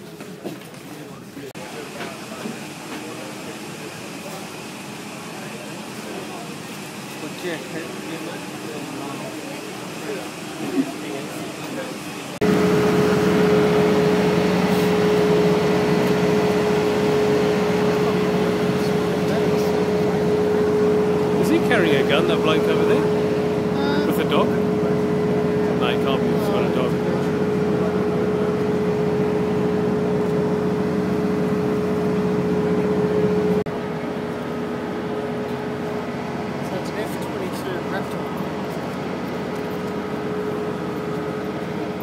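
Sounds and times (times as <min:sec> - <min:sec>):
machine engine droning: 0:01.6 - 0:42.0.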